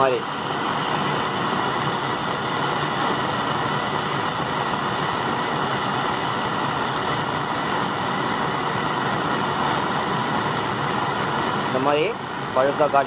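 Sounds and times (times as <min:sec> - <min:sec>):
gas blowtorch hissing: 0:00.0 - 0:13.0.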